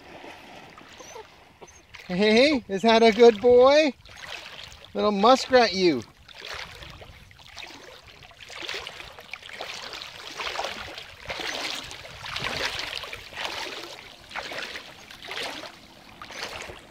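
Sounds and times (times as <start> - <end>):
water sloshing and splashing: 0.0 - 16.9.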